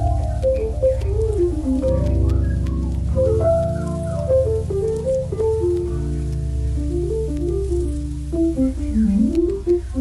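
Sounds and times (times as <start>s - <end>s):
slow instrumental music: 0.0s - 10.0s.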